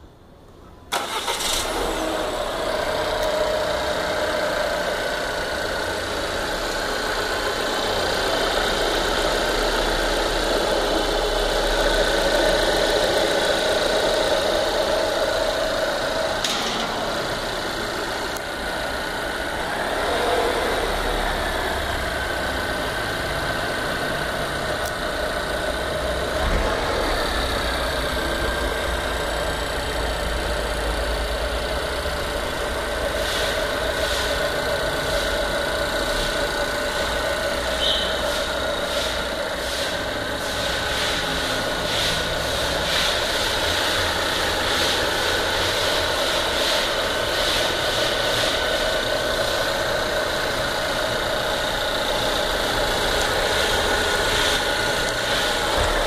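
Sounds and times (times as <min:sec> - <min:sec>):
car engine idling: 0:00.9 - 0:56.0.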